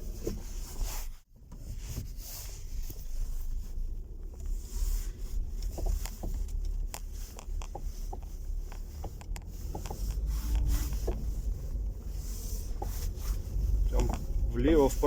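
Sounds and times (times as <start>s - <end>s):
road rumble inside car: 0.0s - 15.0s
suspension clicks and knocks: 0.0s - 15.0s.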